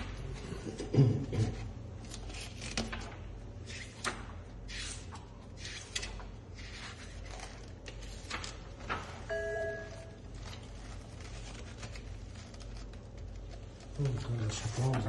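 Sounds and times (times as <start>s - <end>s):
low steady hum: 0.0s - 15.0s
paper pages rustling: 1.8s - 15.0s.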